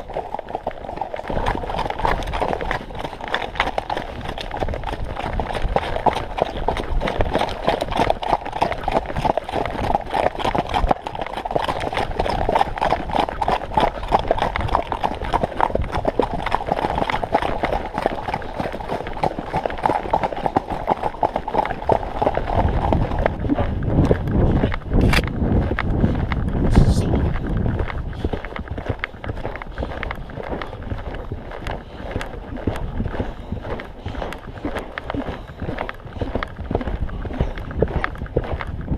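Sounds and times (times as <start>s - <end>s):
horse hoofbeats on dirt: 0.0s - 38.9s.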